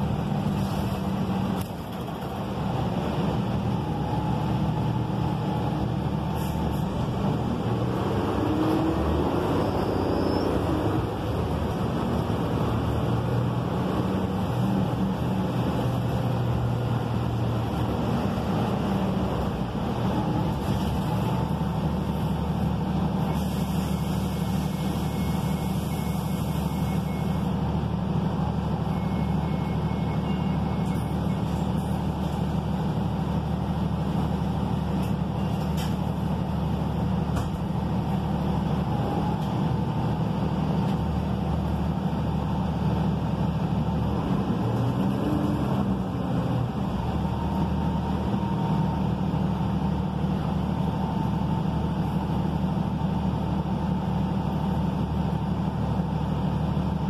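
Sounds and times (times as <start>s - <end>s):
bus diesel engine humming: 0.0s - 57.0s.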